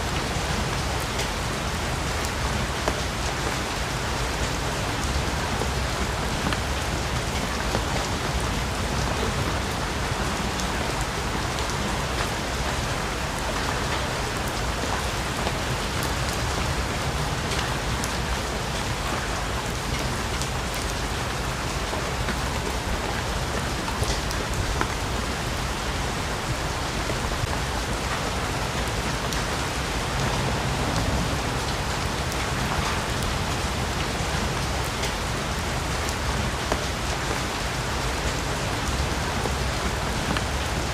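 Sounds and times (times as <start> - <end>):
heavy rain on foliage: 0.0 - 40.9.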